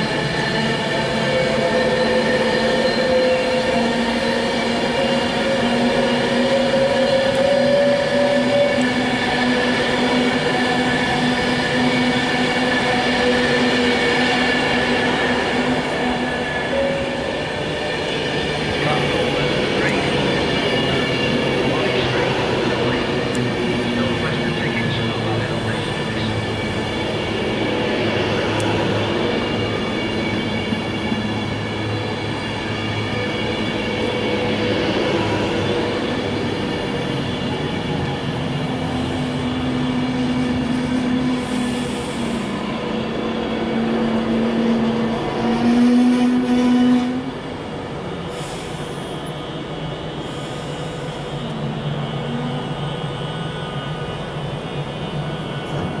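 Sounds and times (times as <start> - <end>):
electric train whining: 0.0 - 56.0
steady train hum: 0.0 - 56.0.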